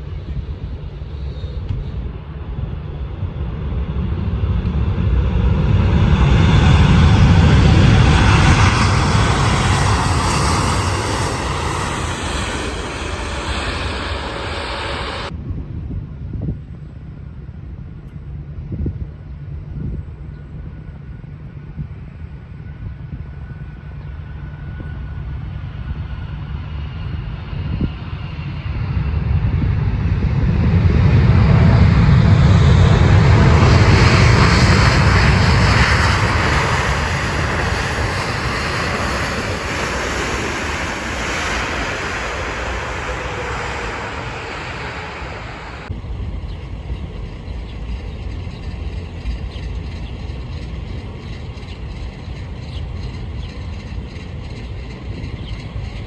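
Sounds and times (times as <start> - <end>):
jet airliner engine roar: 0.0 - 56.0
low rumble: 0.0 - 56.0.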